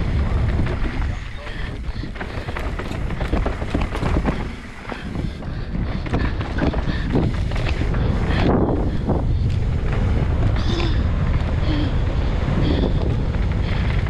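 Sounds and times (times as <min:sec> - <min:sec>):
bike clattering over bumps: 0:00.0 - 0:14.0
bike tyres rolling on gravel: 0:00.0 - 0:14.0
wind buffeting microphone: 0:00.0 - 0:14.0.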